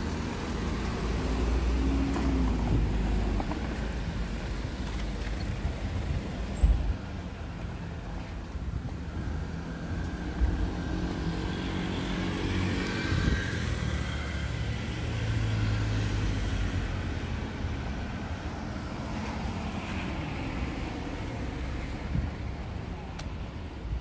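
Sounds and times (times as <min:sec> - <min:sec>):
vehicle passing on road: 0:00.0 - 0:24.0.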